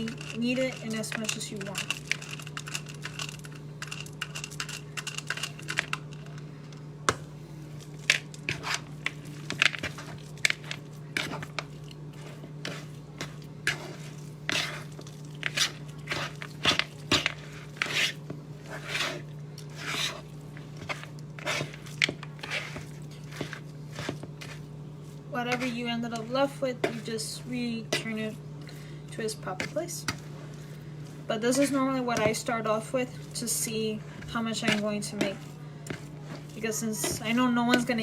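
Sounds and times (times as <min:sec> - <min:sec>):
spoon scraping a bowl: 0:00.0 - 0:06.3, 0:08.0 - 0:24.7, 0:25.4 - 0:28.4, 0:29.3 - 0:38.0
steady low hum: 0:00.0 - 0:38.0.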